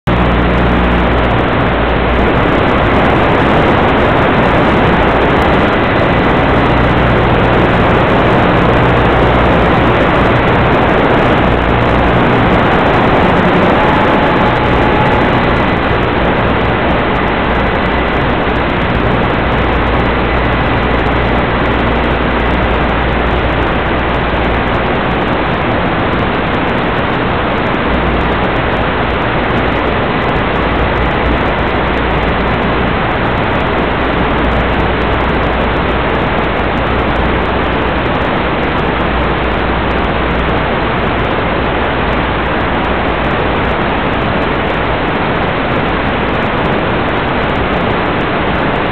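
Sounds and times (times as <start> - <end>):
low rumble: 0.0 - 48.6
loud steady hiss: 0.1 - 48.9.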